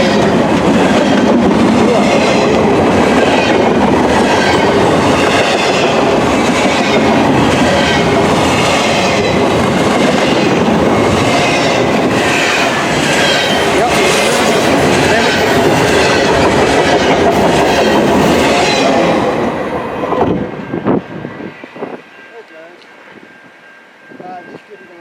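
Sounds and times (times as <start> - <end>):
clickety-clack of rail joints: 0.0 - 23.3
freight train wheels rumbling: 0.0 - 25.0.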